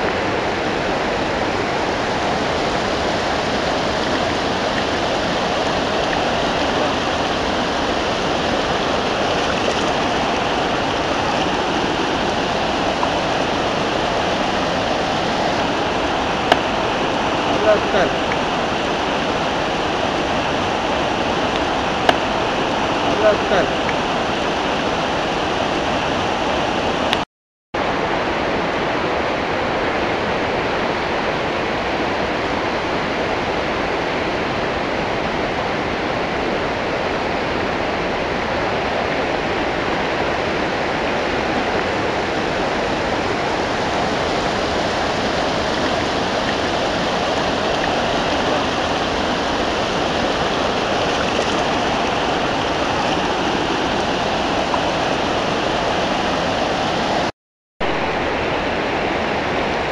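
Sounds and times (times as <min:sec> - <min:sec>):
river rapids rushing over rocks: 0:00.0 - 0:27.2, 0:27.8 - 0:57.3.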